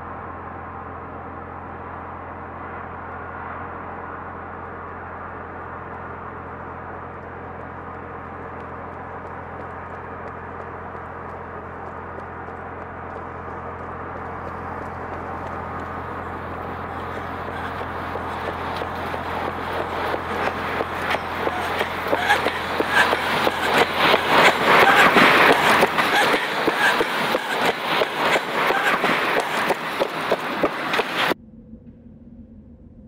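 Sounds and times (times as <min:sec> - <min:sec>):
car road noise in tunnel: 0:00.0 - 0:33.0.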